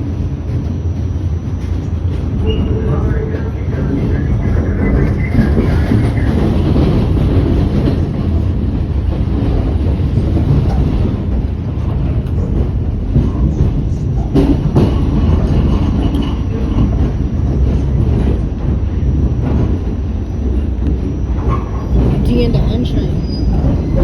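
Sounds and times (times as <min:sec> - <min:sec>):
subway train rumbling on rails: 0:00.0 - 0:24.0.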